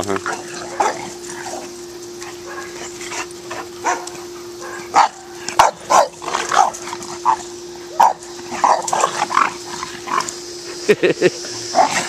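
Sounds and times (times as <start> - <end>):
dogs barking: 0.2 - 10.4.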